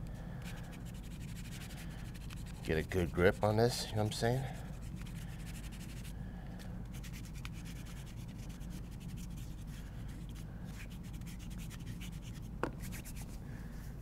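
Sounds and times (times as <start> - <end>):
steady low hum: 0.0 - 14.0
hands rubbing chalk: 0.4 - 3.8, 4.4 - 6.1, 6.9 - 13.4.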